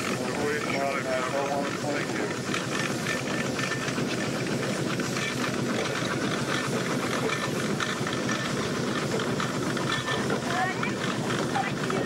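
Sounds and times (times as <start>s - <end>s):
steam hissing: 0.0s - 12.0s
mechanical clatter: 1.4s - 12.0s.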